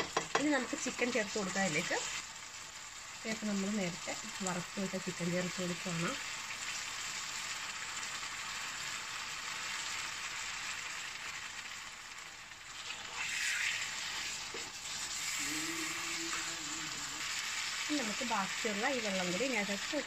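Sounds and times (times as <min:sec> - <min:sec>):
gravy sizzling in a frying pan: 0:00.0 - 0:20.0.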